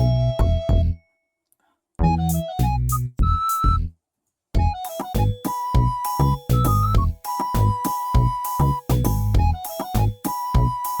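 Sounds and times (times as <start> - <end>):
upbeat music with keyboard melody: 0.0 - 1.0, 2.0 - 3.7, 4.6 - 11.0.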